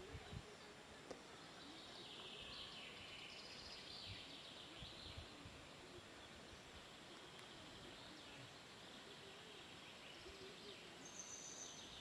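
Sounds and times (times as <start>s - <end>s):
faint bird song: 0.0s - 12.0s.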